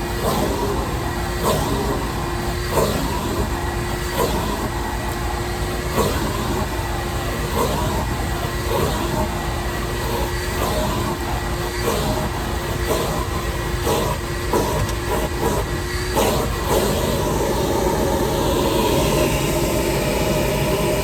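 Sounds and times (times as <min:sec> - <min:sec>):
shop vac motor whine: 0:00.0 - 0:21.0.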